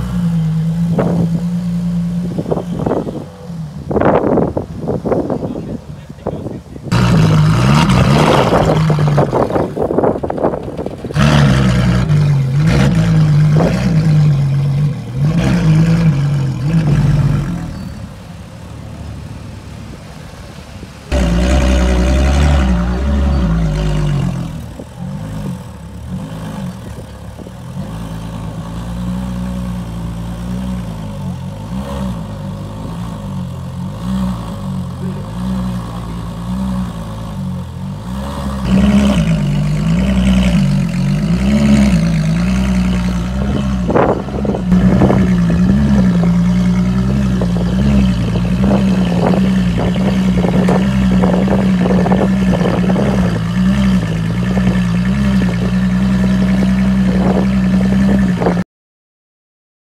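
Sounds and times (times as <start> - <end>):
car engine revving: 0.0 - 58.6.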